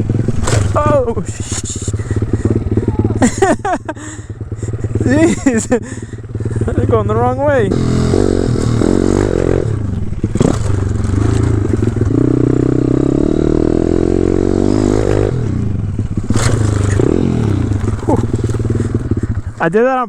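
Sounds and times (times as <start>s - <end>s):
motorbike engine revving: 0.0s - 19.7s.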